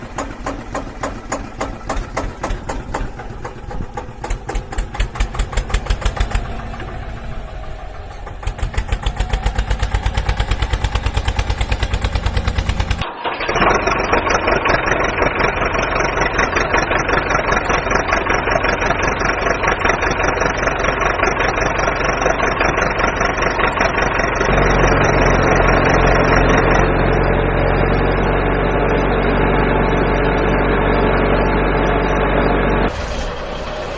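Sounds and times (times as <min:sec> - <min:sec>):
deep engine running: 0:00.0 - 0:33.9
tractor engine chugging: 0:00.0 - 0:33.9.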